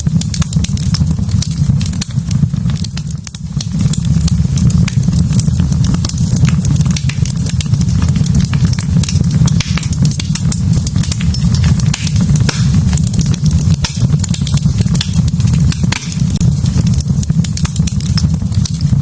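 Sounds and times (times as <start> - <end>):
wood fire crackling: 0.0 - 19.0
low rumble: 1.2 - 18.8.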